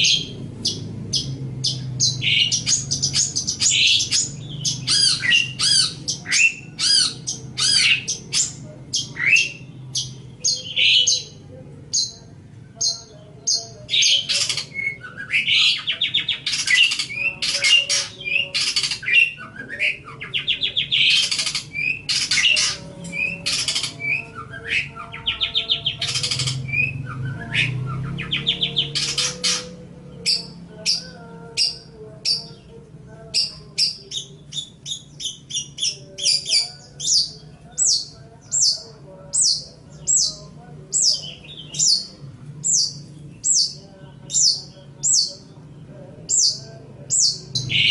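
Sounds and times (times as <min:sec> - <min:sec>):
shrike singing: 0:00.0 - 0:47.9.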